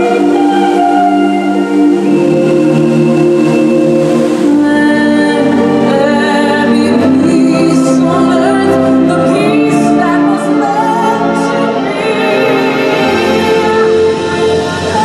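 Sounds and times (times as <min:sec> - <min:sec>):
orchestral show music: 0:00.0 - 0:15.0.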